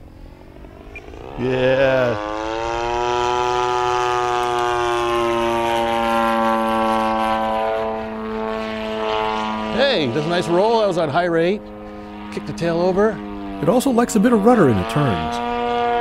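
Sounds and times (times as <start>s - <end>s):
model plane engine: 0.0s - 16.0s.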